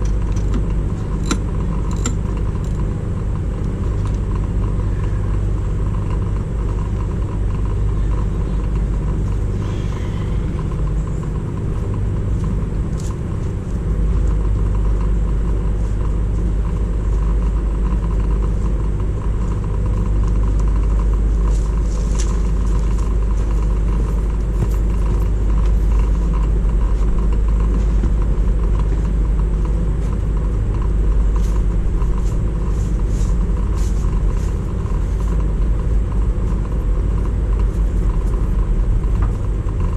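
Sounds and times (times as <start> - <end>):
motor vehicle engine rumble: 0.0 - 39.9.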